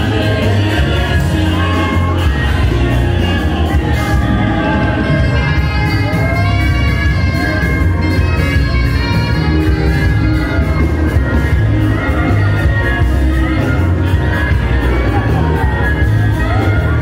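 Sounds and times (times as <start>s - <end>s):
live praise band music: 0.0s - 17.0s.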